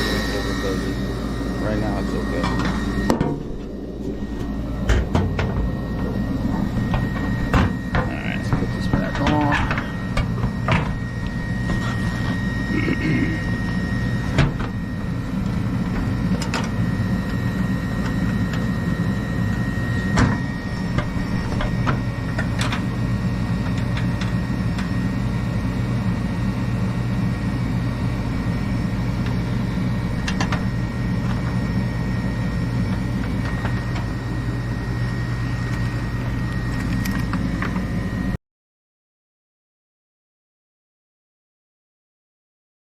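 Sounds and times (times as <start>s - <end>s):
faint high whine: 0.0s - 38.4s
gas furnace motors humming: 0.0s - 38.4s.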